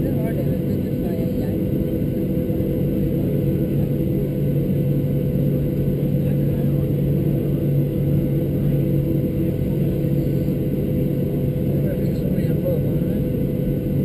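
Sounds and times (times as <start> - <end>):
jet engines droning: 0.0 - 14.0.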